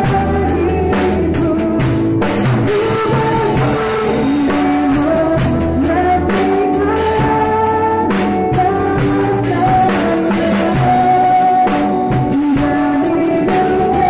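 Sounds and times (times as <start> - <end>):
drum kit toms and cymbal: 0.0 - 14.0
worship song singing over band: 0.0 - 14.0.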